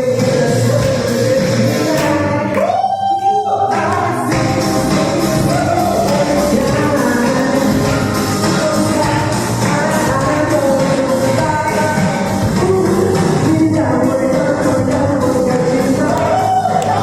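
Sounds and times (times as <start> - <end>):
karaoke backing track: 0.0 - 17.0
man singing: 0.0 - 17.0.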